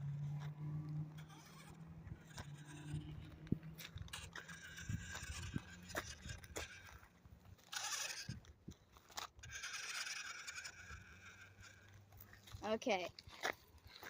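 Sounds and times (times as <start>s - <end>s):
toy electric motor whining: 0.0s - 12.6s
tyres scraping over dirt: 0.0s - 14.0s.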